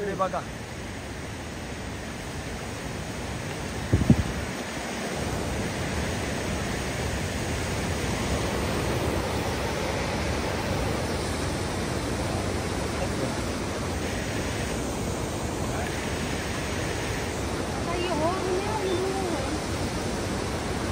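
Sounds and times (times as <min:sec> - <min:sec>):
river rushing: 0:00.0 - 0:20.9.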